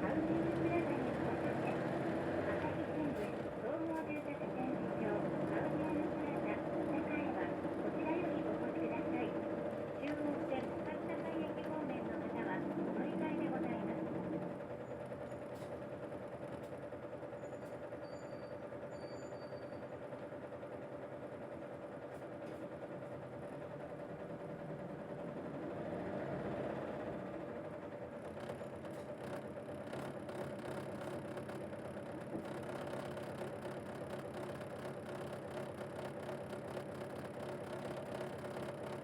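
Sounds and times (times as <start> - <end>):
bus engine hum from inside: 0.0 - 19.8, 22.1 - 39.0.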